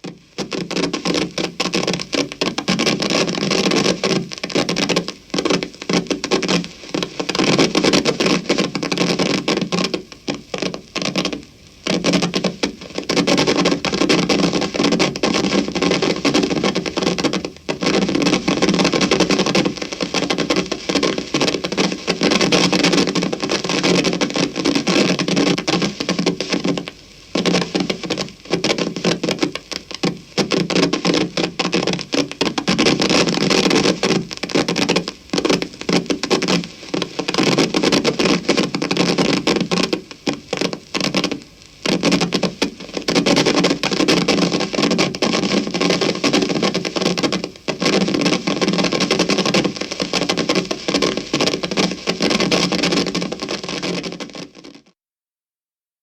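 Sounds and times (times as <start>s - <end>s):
amplifier static crackling: 0.0s - 55.0s.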